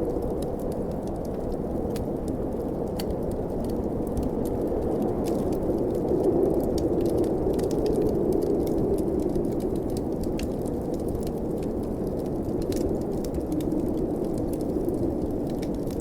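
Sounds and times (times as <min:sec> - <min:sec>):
storm wind blowing: 0:00.0 - 0:16.0
wood fire crackling: 0:00.0 - 0:16.0.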